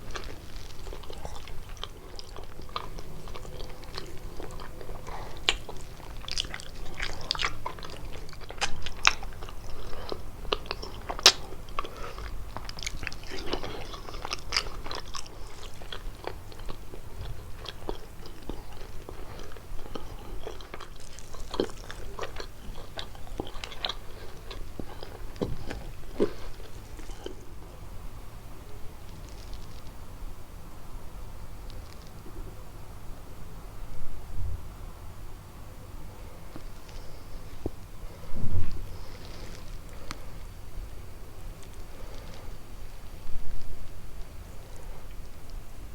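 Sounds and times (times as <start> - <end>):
crunchy pastry chewing: 0.0 - 30.2, 31.5 - 32.4, 36.3 - 45.9.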